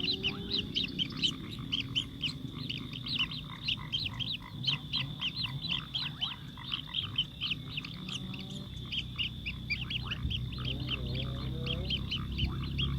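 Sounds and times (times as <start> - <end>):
sparrows chirping: 0.0 - 12.9.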